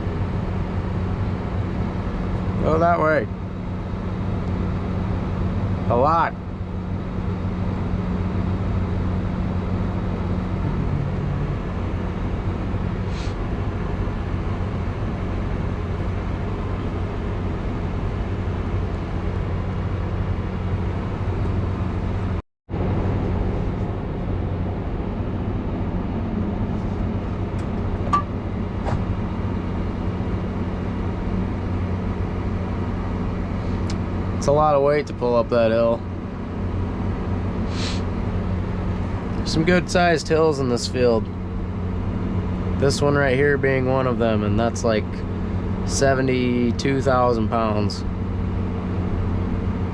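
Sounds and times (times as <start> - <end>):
tractor engine running under load: 0.0 - 49.9.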